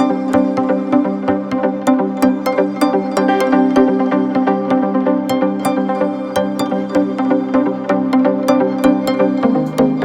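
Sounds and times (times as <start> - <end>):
electronic music with synths: 0.0 - 10.0.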